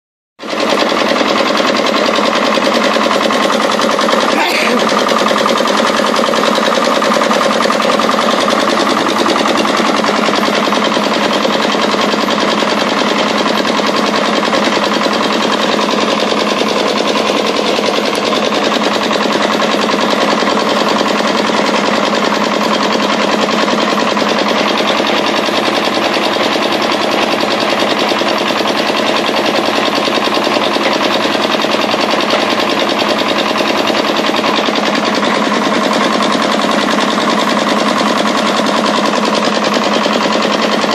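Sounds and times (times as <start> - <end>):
well-drilling machine rattling: 0.4 - 40.9.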